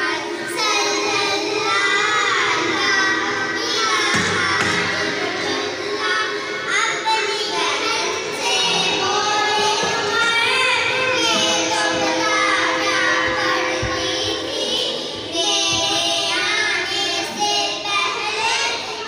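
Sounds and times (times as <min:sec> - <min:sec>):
girls singing into a microphone: 0:00.0 - 0:19.0.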